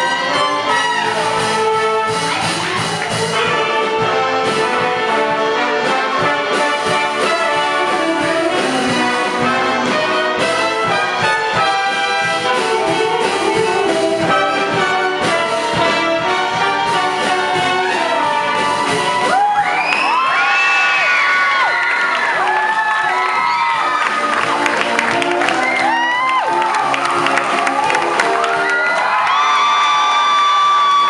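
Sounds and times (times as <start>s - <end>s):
upbeat brass show music: 0.0s - 31.0s.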